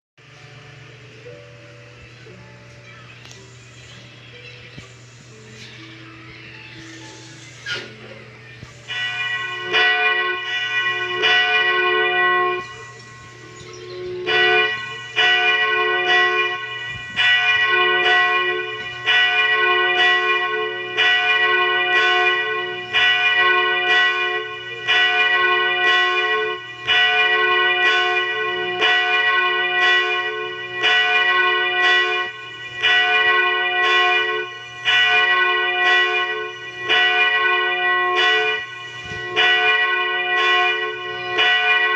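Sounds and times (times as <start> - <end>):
church bell ringing: 0.2 - 41.9.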